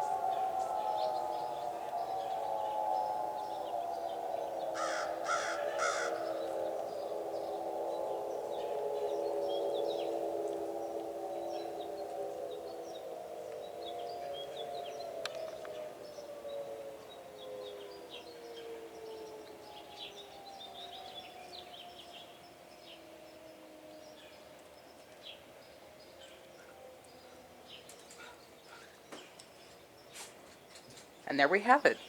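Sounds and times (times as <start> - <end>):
warning siren winding down: 0.0 - 28.2
birds chirping: 0.0 - 32.0.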